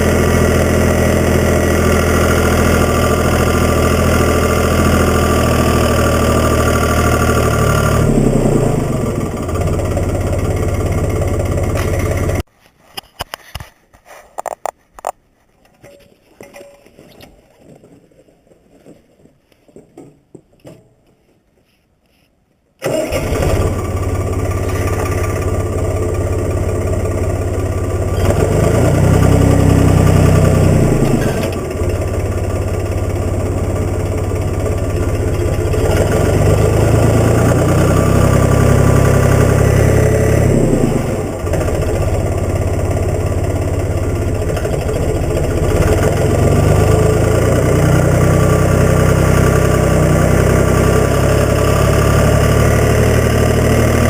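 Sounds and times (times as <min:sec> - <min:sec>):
diesel tractor engine running: 0:00.0 - 0:12.5, 0:22.8 - 0:54.0.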